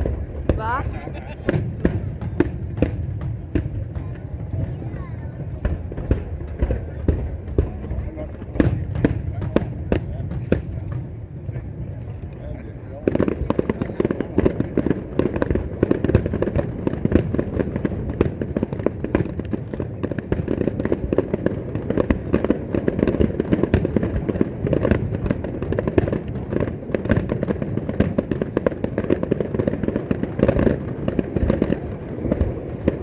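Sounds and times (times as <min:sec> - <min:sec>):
fireworks booming and crackling: 0:00.0 - 0:33.0.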